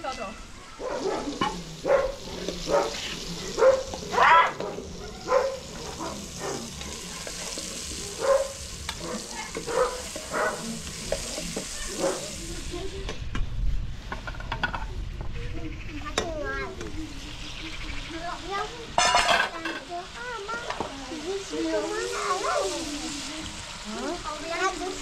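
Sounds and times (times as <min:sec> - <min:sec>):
tomatoes sizzling in a pan: 0:00.0 - 0:25.0.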